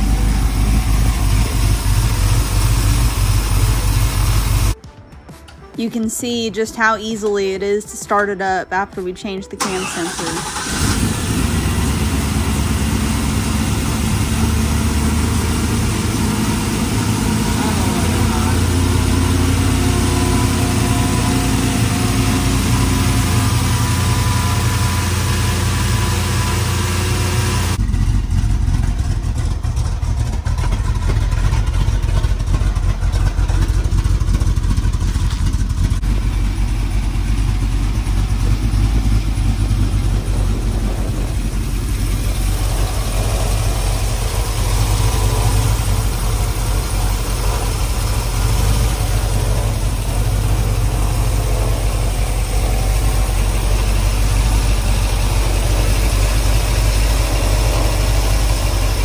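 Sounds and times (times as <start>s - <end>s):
car engine running steadily: 0.0s - 4.8s, 9.6s - 59.0s.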